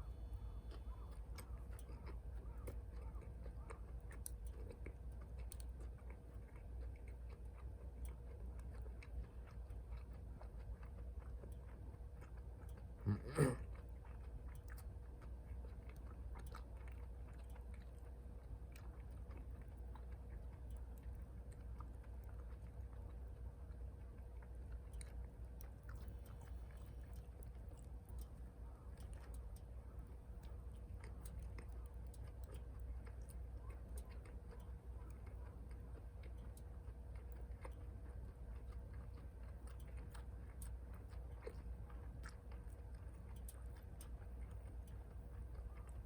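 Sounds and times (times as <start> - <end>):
person chewing food: 0.0 - 46.0.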